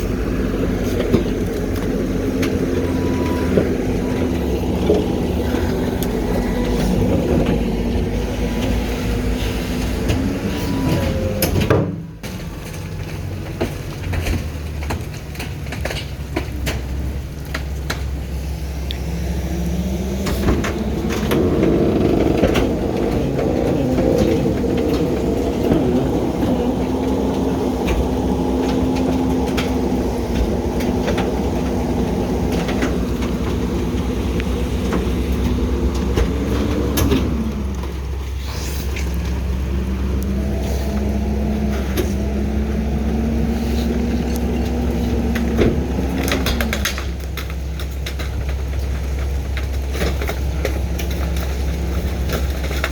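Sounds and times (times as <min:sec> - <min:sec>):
garbage truck diesel engine: 0:00.0 - 0:52.9.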